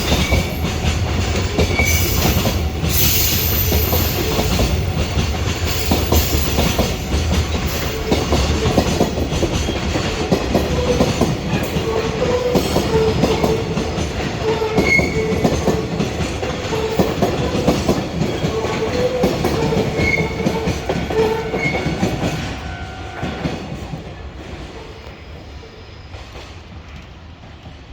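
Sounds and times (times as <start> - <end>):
freight train wheels clattering: 0.0 - 25.0.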